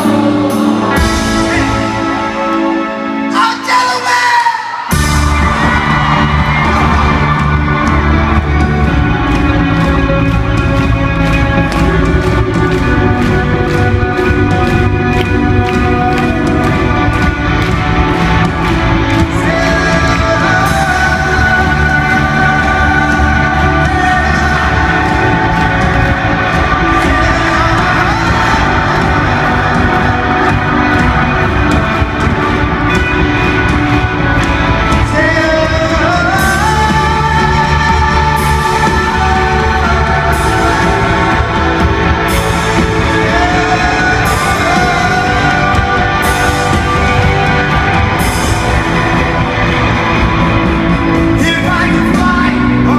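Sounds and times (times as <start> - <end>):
rock band playing live: 0.0 - 52.9.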